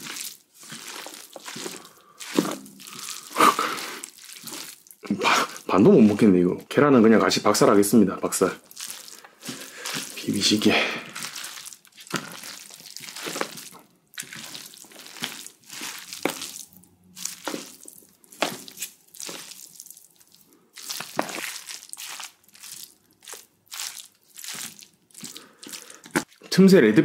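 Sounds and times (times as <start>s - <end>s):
wet squishing and scraping of food: 0.0s - 26.8s.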